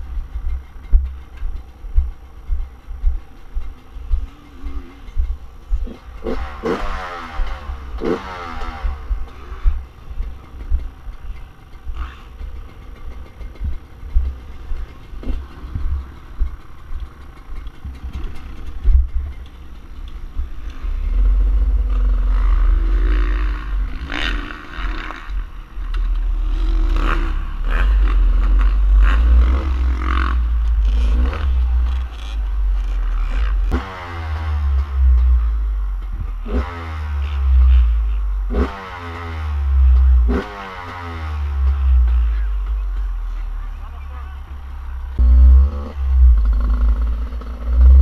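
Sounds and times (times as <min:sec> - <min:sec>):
heavy low rumble: 0:00.0 - 0:38.6, 0:41.0 - 0:48.0
dirt bike engine revving: 0:00.0 - 0:48.0.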